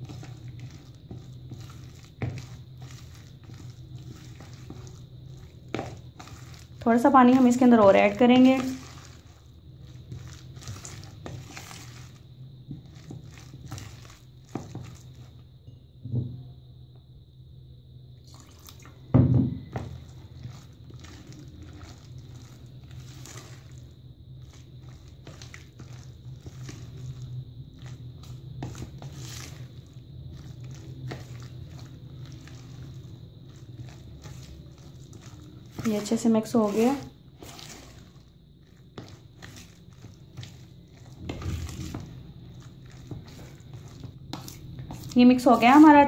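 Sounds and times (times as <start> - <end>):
spoon stirring wet batter: 0.0 - 15.8, 18.2 - 46.0.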